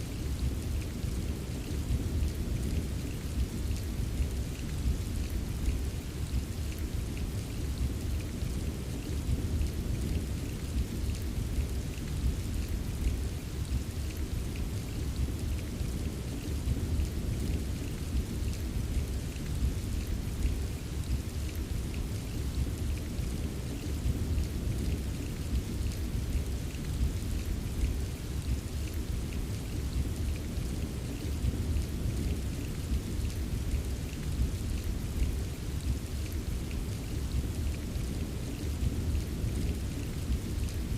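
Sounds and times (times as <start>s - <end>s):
rain hissing with drop ticks: 0.0s - 40.9s.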